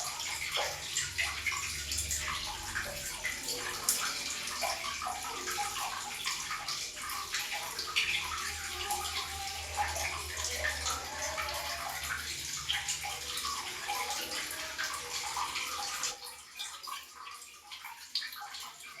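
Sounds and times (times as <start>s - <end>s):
tap water running and splashing: 0.0s - 19.0s
water drips: 0.0s - 19.0s.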